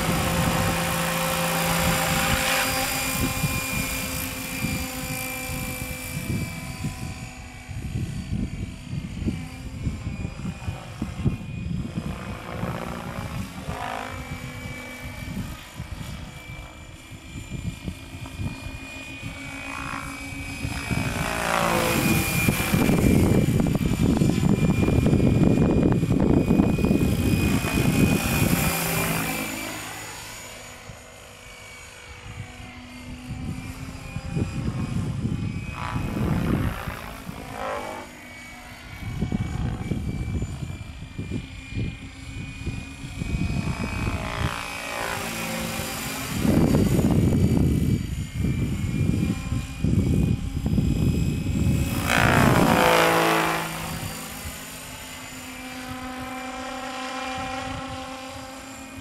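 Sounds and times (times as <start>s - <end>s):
model helicopter rotor chop: 0.0s - 59.0s.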